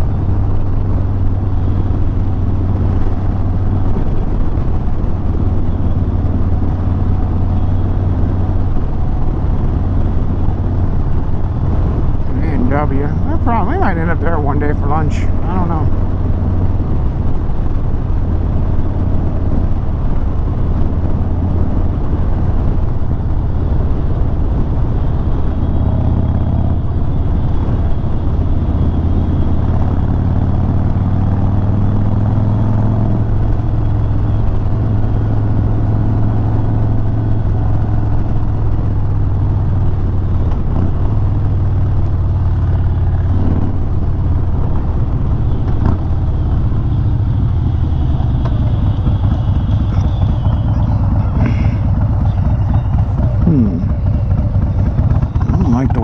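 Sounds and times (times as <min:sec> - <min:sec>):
wind noise on microphone: 0:00.0 - 0:14.4, 0:15.2 - 0:42.3, 0:43.2 - 0:56.0
motorcycle engine running: 0:00.0 - 0:56.0.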